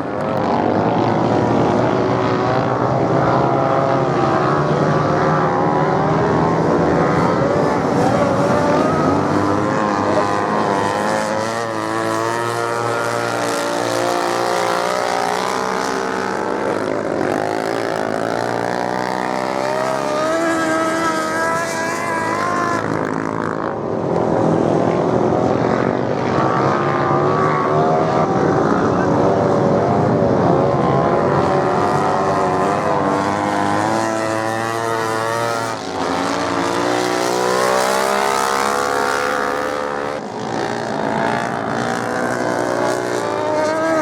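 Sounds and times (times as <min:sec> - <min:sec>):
racing motorcycle engines revving: 0:00.0 - 0:44.0.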